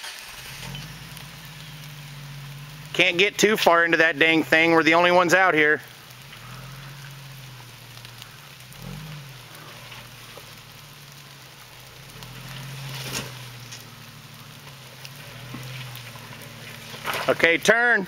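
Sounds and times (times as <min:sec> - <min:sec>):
crackling hiss: 0:00.0 - 0:18.0
vehicle engine running: 0:00.0 - 0:18.0.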